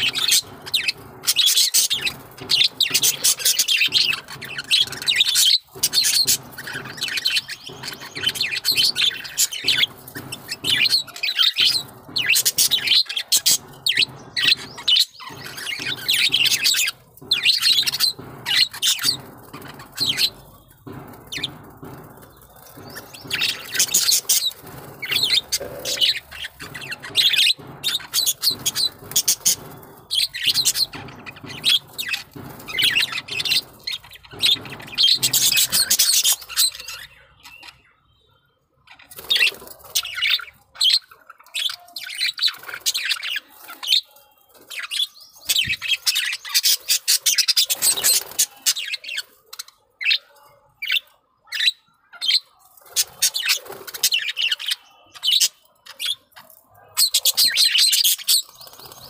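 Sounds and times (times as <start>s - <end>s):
budgerigars chattering and chirping: 0.0s - 38.0s, 38.9s - 59.0s.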